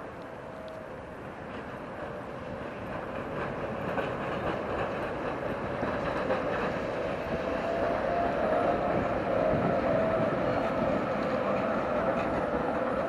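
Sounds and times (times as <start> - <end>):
tram rolling on rails: 0.0 - 13.0.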